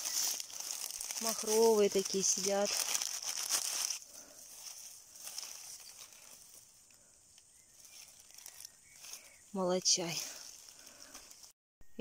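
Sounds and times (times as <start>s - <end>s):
grass and leaves rustling: 0.0s - 11.6s.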